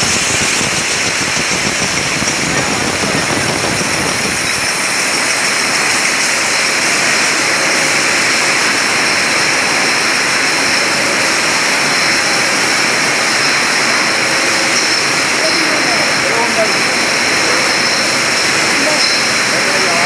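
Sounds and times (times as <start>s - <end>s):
bottling machinery hiss: 0.0s - 20.0s
high steady whining tones: 0.0s - 20.0s.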